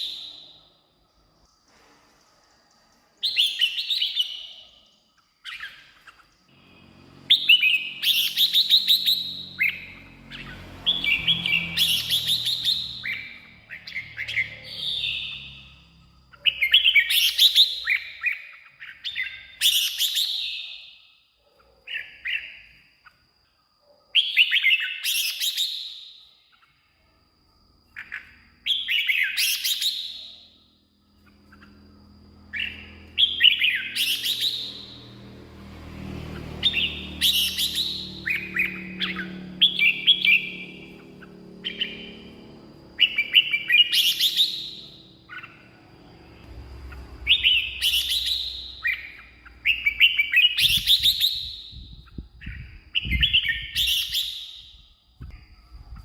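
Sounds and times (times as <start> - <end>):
bird singing warbled phrases: 0.0 - 1.6, 3.2 - 23.2, 31.2 - 35.5, 36.2 - 56.0.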